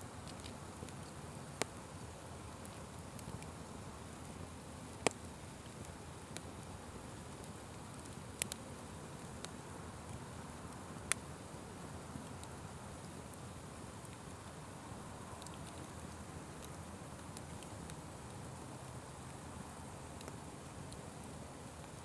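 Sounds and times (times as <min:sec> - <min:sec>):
wood fire hissing: 0:00.0 - 0:22.0
fire crackling pops: 0:00.1 - 0:14.8, 0:15.4 - 0:22.0.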